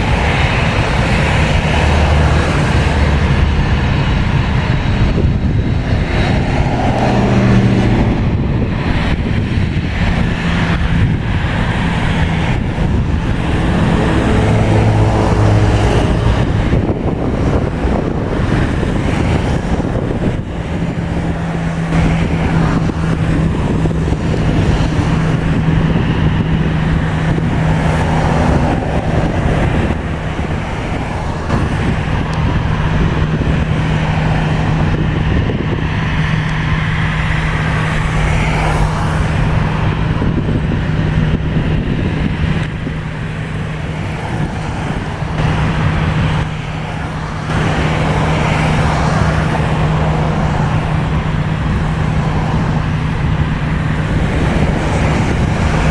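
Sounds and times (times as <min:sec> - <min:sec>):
engine humming: 0:00.0 - 0:55.9.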